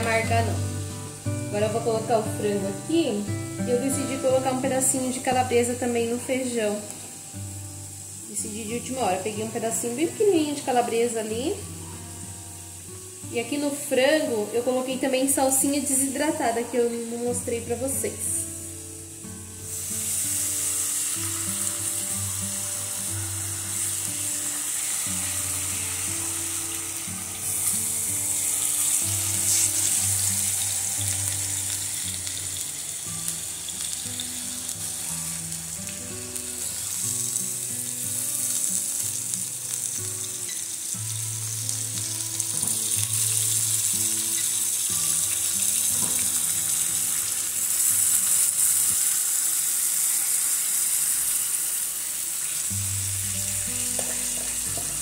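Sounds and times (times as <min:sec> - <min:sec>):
chicken sizzling in frying pan: 0:00.0 - 0:55.0
soft background music: 0:00.0 - 0:55.0.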